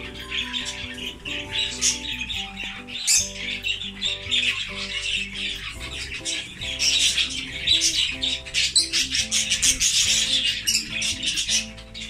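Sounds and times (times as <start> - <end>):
background music: 0.0 - 12.0
budgerigars chattering and chirping: 0.0 - 12.0.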